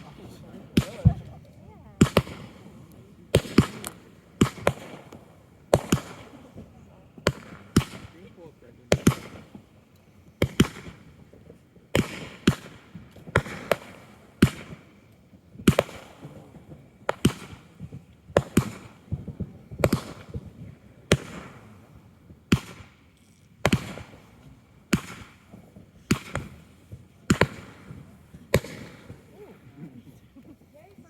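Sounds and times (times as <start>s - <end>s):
fireworks bangs: 0.0s - 31.0s
fireworks crackle: 0.0s - 31.0s.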